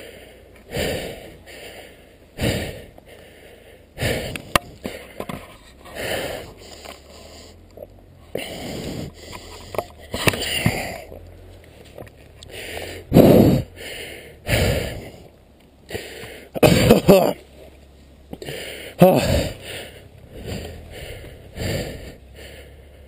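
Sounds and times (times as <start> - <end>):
man breathing hard: 0.0 - 11.2, 12.4 - 17.0, 18.3 - 23.0.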